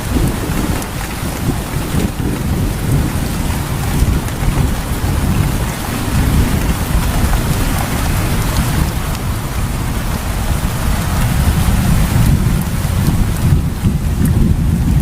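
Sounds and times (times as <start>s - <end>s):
heavy rain: 0.0s - 15.0s
low rumble of thunder: 0.0s - 15.0s.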